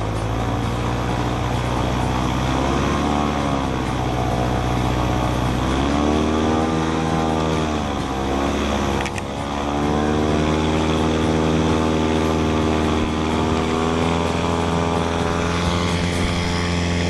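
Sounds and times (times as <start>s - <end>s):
airboat engine and propeller: 0.0s - 17.0s.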